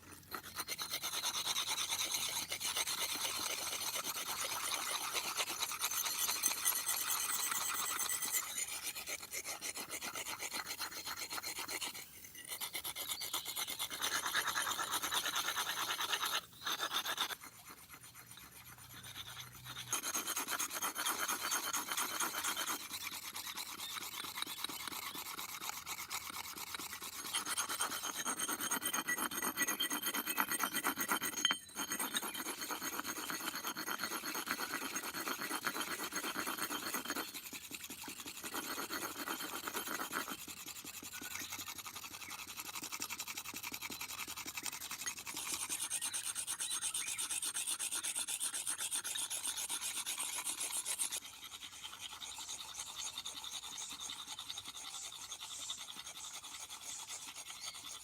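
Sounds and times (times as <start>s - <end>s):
rasping strokes of hand file: 0.0s - 58.0s.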